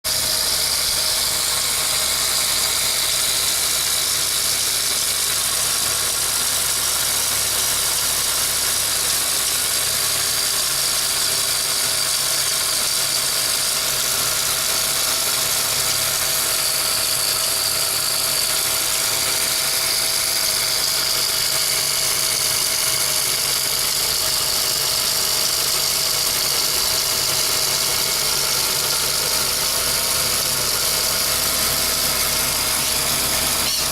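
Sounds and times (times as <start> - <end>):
vehicle engine idling: 0.1 - 33.9.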